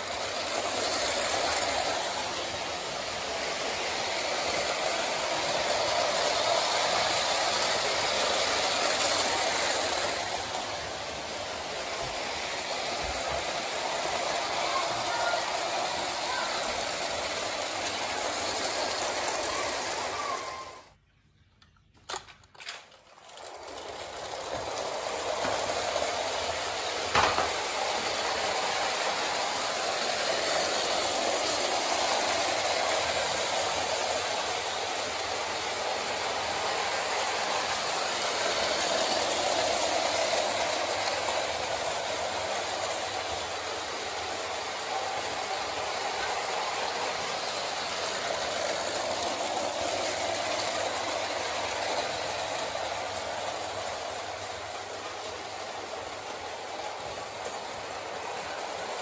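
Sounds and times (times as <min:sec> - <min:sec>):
toy train whirring and rattling: 0:00.0 - 0:59.0.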